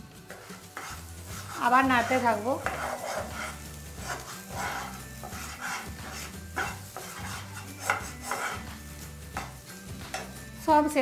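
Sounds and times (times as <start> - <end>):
paste frying in oil: 0.0 - 10.6
spatula scraping frying pan: 0.3 - 10.4.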